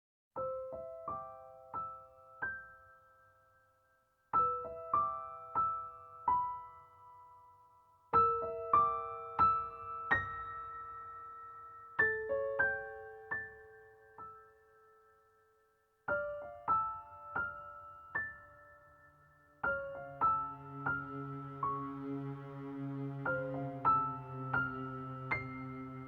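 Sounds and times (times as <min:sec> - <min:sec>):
gentle piano music: 0:00.4 - 0:26.0.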